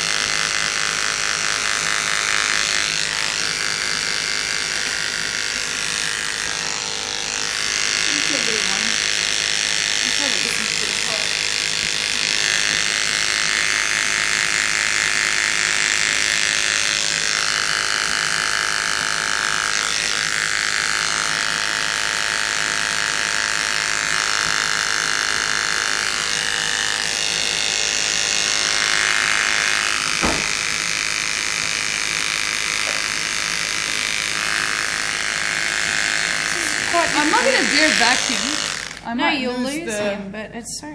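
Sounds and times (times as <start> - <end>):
electric hair clippers buzzing: 0.0 - 40.3.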